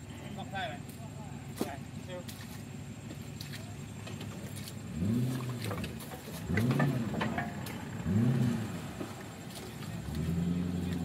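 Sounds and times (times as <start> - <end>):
off-road engine revving: 1.4 - 11.0.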